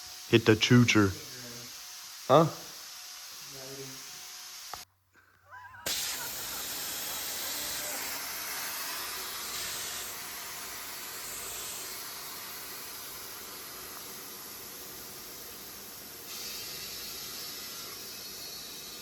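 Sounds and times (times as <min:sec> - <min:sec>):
steady hiss: 0:00.0 - 0:04.9, 0:05.8 - 0:19.0.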